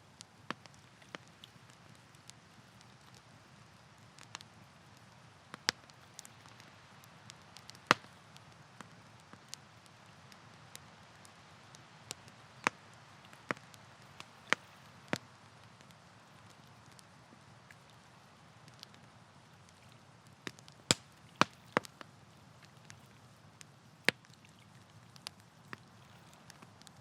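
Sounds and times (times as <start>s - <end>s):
faint steady hiss: 0.0s - 27.0s
burning wood popping and snapping: 4.0s - 27.0s.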